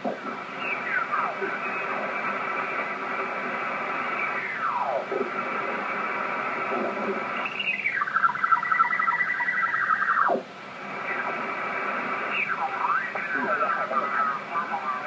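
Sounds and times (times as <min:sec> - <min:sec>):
radio band hiss: 0:00.0 - 0:15.0
radio signals gliding in pitch: 0:00.0 - 0:15.0.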